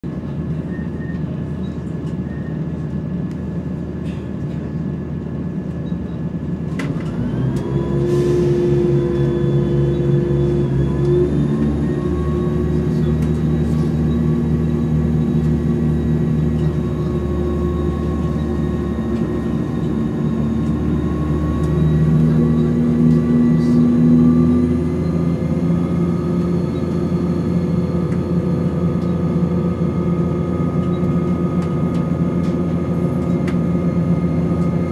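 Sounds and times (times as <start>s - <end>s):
train running rumble: 0.0s - 34.9s.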